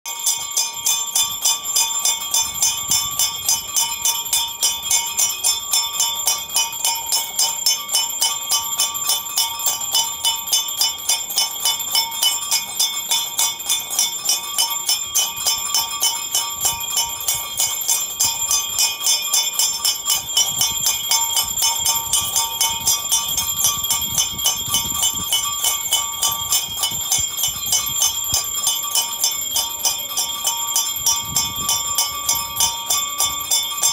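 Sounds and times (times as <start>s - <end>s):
bell ringing rapidly: 0.1s - 33.9s.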